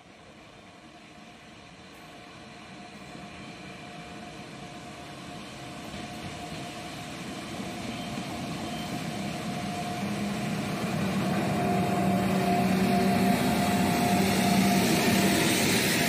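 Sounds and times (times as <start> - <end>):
electric locomotive hum and whine: 0.0 - 16.0
freight train rumble: 0.0 - 16.0.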